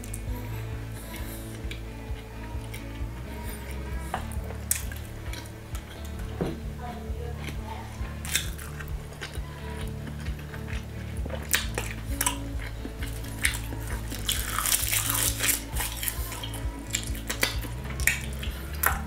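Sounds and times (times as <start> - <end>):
background music with bass: 0.0 - 19.0
chewing with wet mouth clicks: 0.0 - 19.0.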